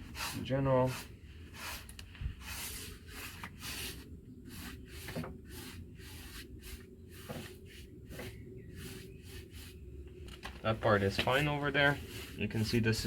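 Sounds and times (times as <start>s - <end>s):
brush scrubbing paint on wood: 0.0s - 13.0s.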